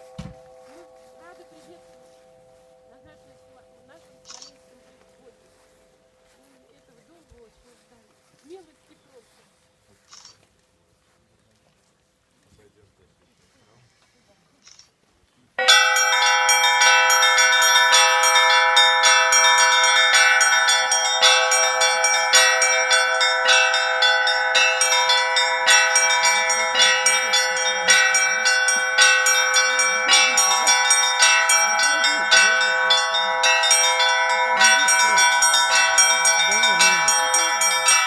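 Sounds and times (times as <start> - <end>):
church bells pealing: 0.0 - 8.4, 15.6 - 38.0.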